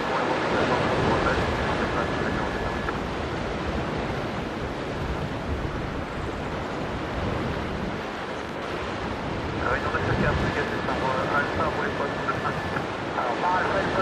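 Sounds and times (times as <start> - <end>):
jet engines rushing: 0.0 - 14.0
wind on microphone: 0.0 - 14.0.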